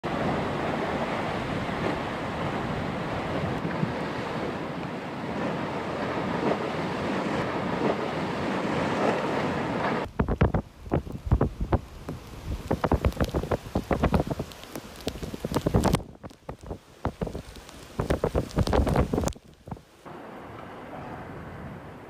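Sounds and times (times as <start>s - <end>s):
surf breaking on a beach: 0.0s - 22.0s
wind buffeting microphone: 0.1s - 19.9s.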